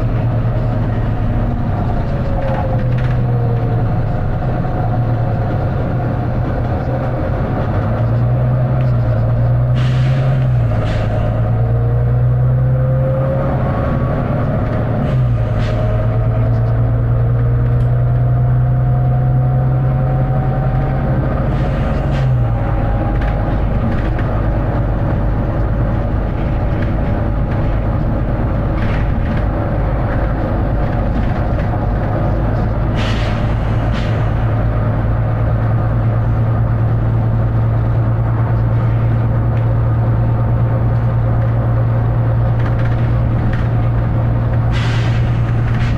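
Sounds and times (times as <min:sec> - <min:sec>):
bus diesel engine drone: 0:00.0 - 0:45.9.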